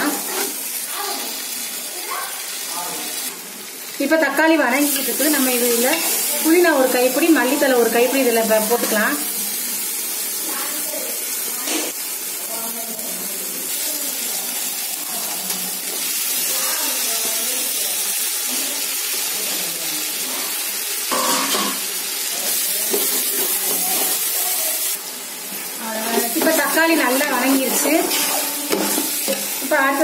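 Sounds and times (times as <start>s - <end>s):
sauce sizzling in hot oil: 0.0s - 30.0s.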